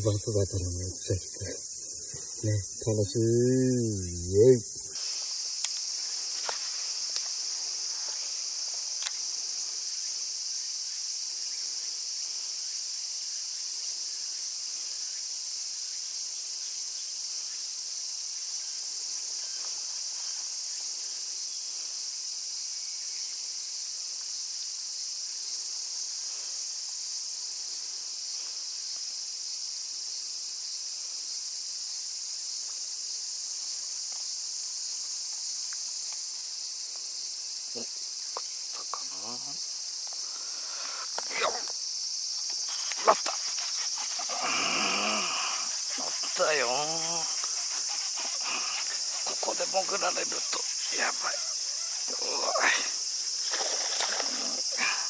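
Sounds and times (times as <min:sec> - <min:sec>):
insect chorus buzzing: 0:00.0 - 0:55.0.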